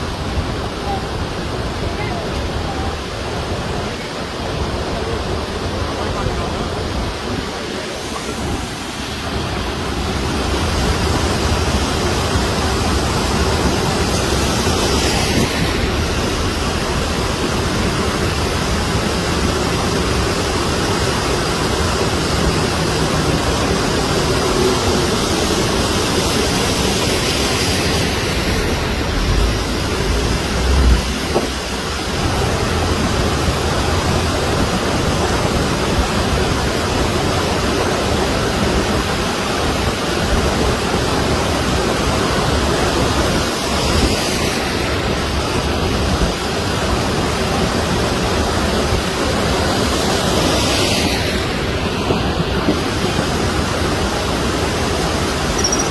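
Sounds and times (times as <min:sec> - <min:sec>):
rushing floodwater: 0:00.0 - 0:55.9.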